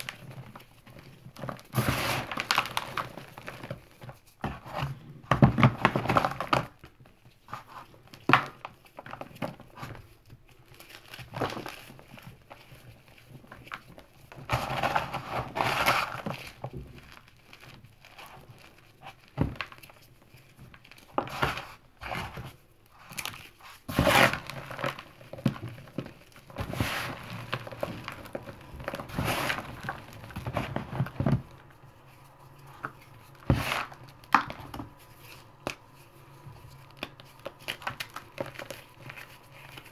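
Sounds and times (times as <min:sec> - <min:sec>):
hands crumbling chalk: 0:00.0 - 0:39.9.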